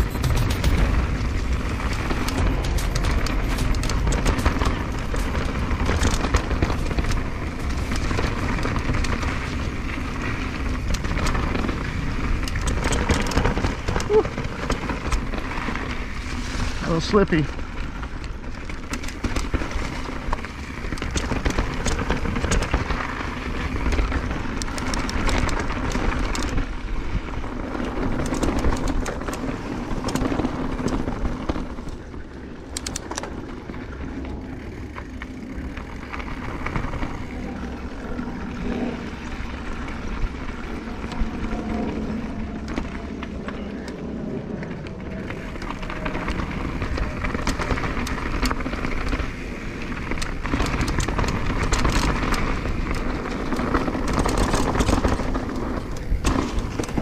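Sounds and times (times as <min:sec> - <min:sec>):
bike frame rattling and clicking: 0:00.0 - 0:57.0
bike tyres rolling over dirt: 0:00.0 - 0:57.0
wind rumbling on microphone: 0:00.0 - 0:57.0.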